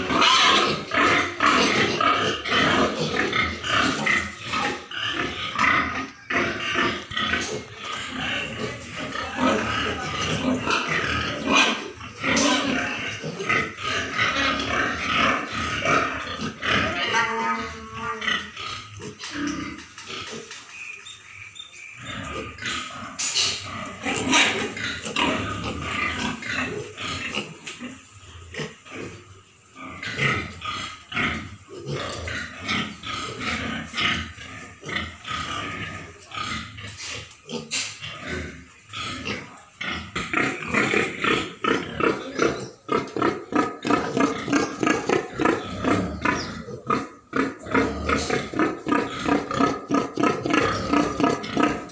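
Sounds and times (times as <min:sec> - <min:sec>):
pigs grunting: 0:00.0 - 0:20.8, 0:21.9 - 0:51.9.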